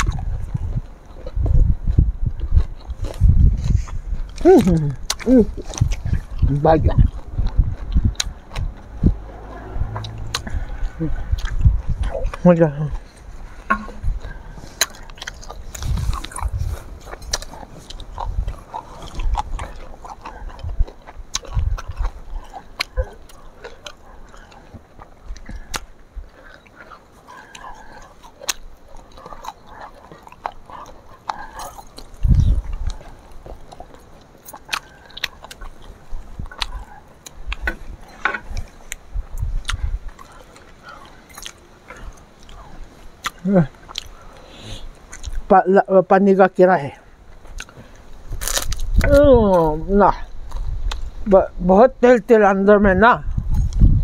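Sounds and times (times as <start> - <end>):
chewing and biting: 0.0 - 45.5, 46.9 - 51.2, 53.2 - 54.0
wind buffeting microphone: 0.0 - 45.6, 46.9 - 54.0.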